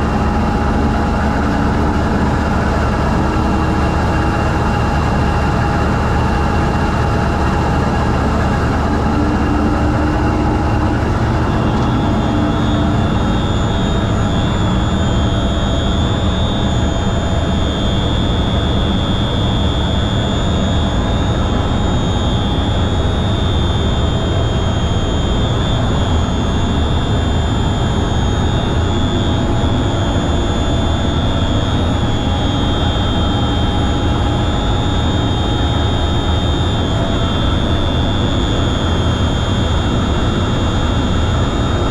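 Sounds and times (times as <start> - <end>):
diesel engine drone: 0.0 - 41.9
high steady whine: 0.0 - 41.9.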